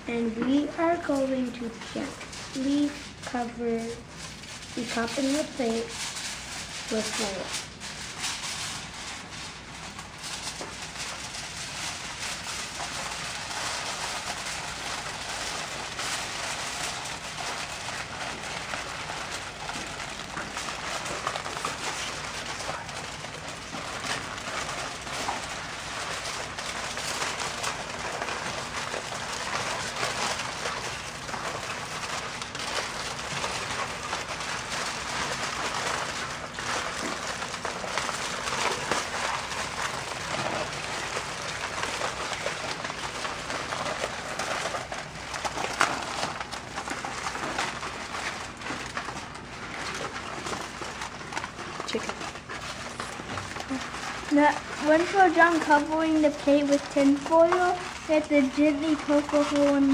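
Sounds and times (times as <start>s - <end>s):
aluminium foil crinkling: 0.0s - 59.9s.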